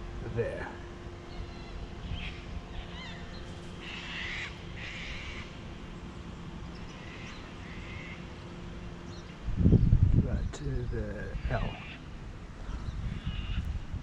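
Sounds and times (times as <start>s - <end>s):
harsh bird calls: 0.3s - 14.0s.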